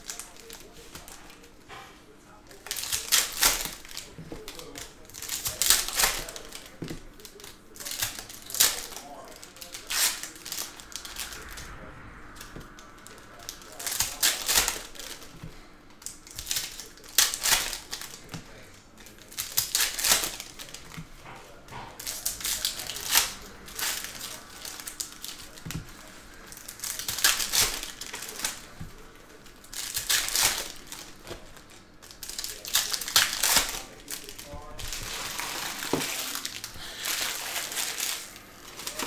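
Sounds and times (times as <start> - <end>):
card wrappers crinkling: 0.0 - 39.0.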